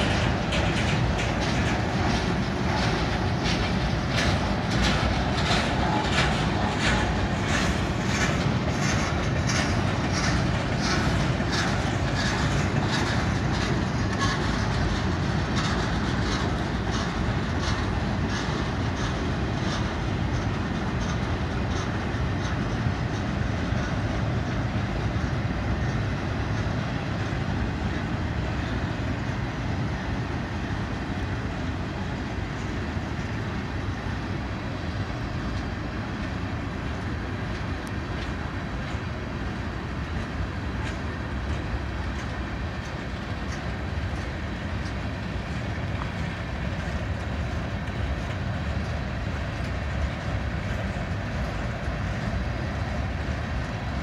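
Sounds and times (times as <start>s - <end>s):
steel wheels rumbling on rail: 0.0s - 54.0s
train wheels clickety-clack: 0.0s - 54.0s.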